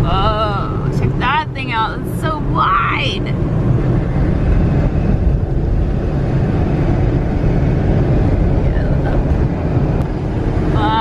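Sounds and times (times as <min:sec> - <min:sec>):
car road and wind noise: 0:00.0 - 0:11.0.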